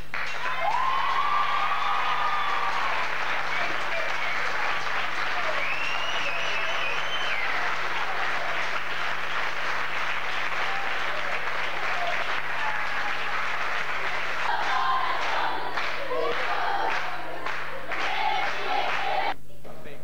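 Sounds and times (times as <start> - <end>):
crowd clapping: 0.0 - 19.4.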